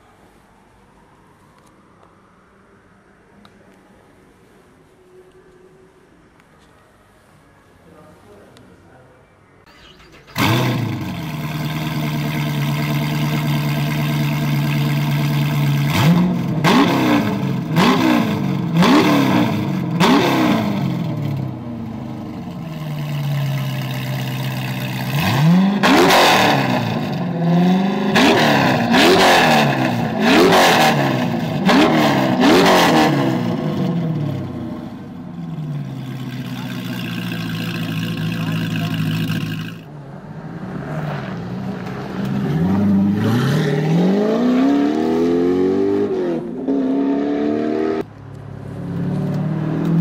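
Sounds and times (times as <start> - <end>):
car engine idling and revving: 9.7 - 50.0.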